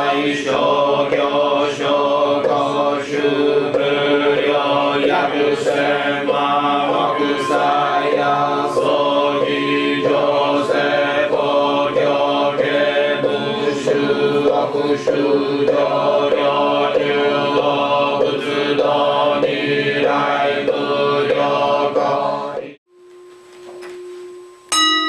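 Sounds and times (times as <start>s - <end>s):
rhythmic chanting: 0.0s - 22.8s.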